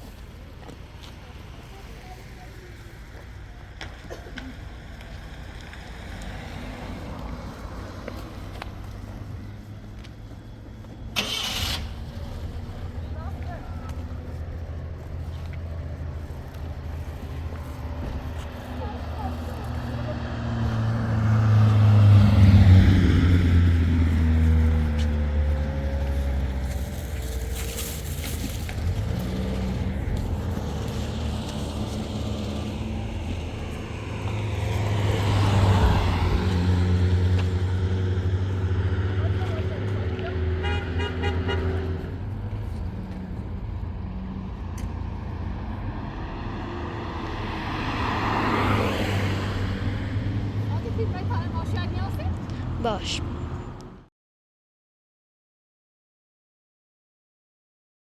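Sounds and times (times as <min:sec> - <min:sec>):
vehicle engine hum: 0:00.0 - 0:54.1.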